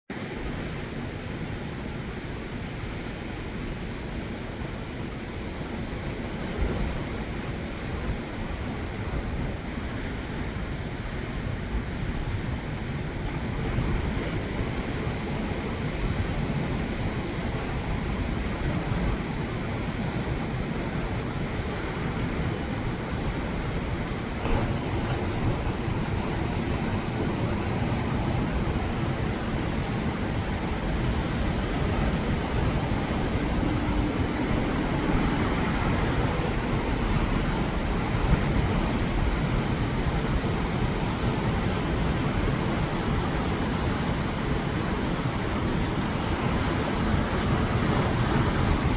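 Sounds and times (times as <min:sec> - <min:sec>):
ocean surf washing: 0:00.1 - 0:48.9
wind on microphone: 0:00.2 - 0:48.9.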